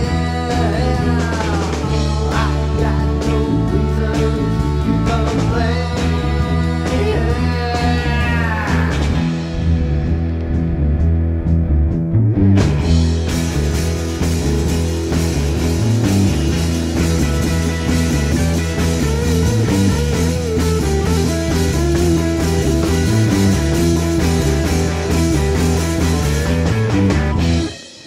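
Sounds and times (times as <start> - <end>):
garage rock song: 0.0 - 28.0.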